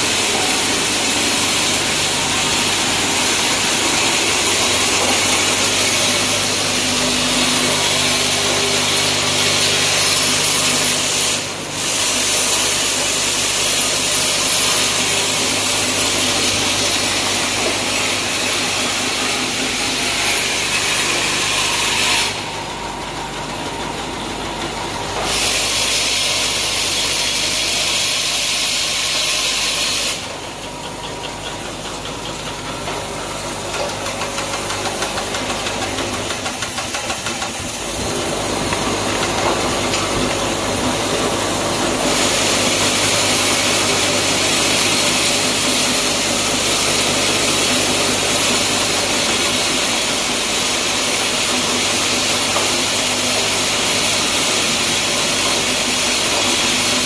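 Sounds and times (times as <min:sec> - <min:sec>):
low mechanical hum: 0:00.0 - 0:57.0
machine hissing: 0:00.0 - 0:57.0.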